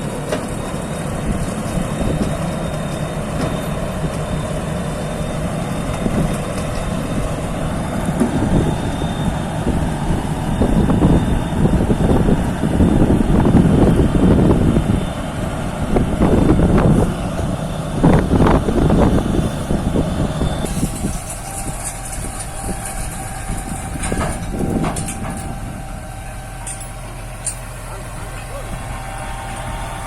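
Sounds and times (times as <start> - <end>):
heavy vehicle engine running: 0.0 - 30.0.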